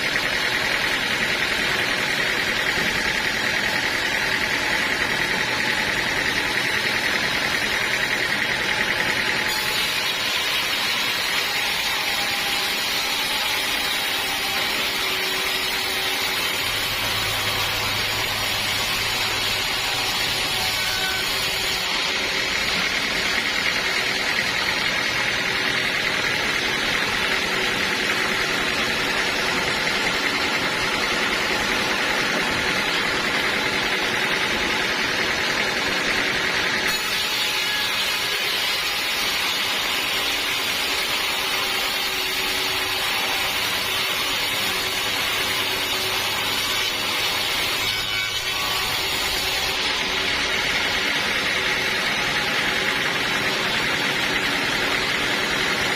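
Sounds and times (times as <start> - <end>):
saw cutting through log: 0.0 - 55.9
saw motor running: 0.0 - 55.9.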